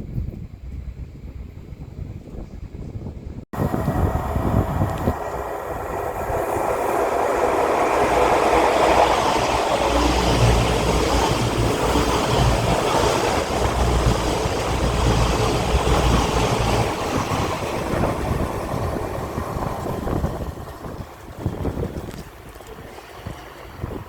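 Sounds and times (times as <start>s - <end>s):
electric train rumbling: 0.0s - 24.0s.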